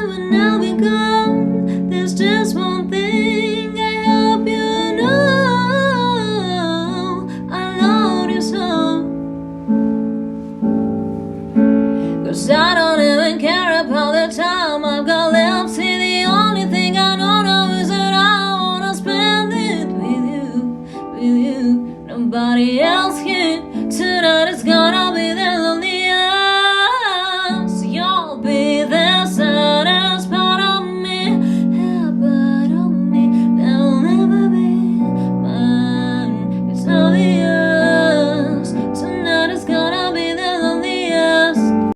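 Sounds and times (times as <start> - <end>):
woman singing: 0.0 - 9.2, 12.1 - 41.9.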